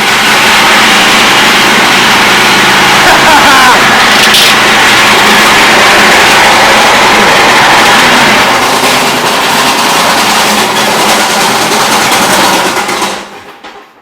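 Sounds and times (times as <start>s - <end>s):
exhaust fan rushing air: 0.0s - 13.5s.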